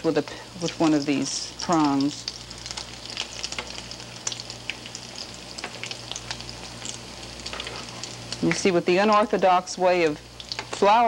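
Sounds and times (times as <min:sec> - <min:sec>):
food frying in hot oil: 0:00.0 - 0:11.0.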